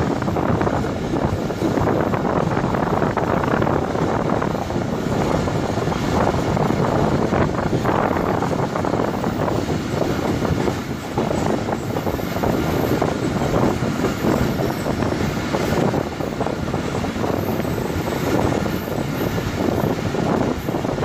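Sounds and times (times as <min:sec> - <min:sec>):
train wheels rumbling on rails: 0:00.0 - 0:21.0
wind buffeting the microphone: 0:00.0 - 0:21.0.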